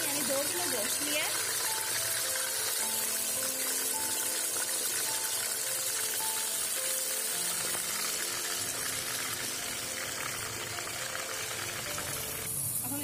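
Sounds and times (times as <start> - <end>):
background music: 0.0 - 13.0
meat sizzling in a pot: 0.0 - 13.0.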